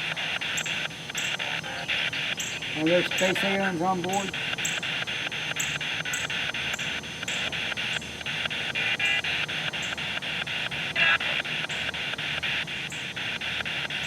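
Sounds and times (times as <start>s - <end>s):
hissing radio static: 0.0s - 14.0s.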